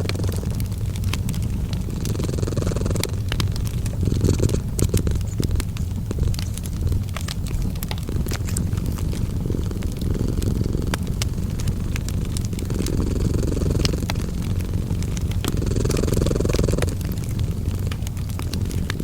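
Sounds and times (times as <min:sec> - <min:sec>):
cat purring: 0:00.0 - 0:19.0
wood fire crackling and popping: 0:00.0 - 0:19.0.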